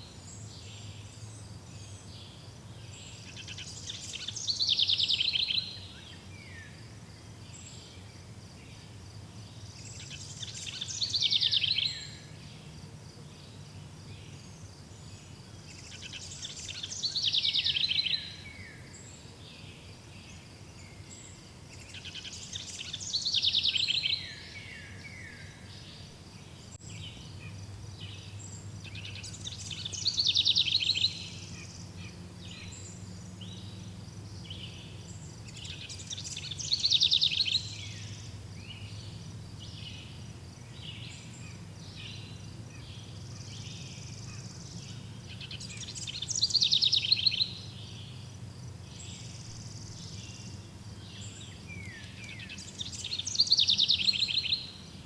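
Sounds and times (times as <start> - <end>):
faint high insect-like drone: 0.0 - 55.0
songbird singing: 0.0 - 55.0.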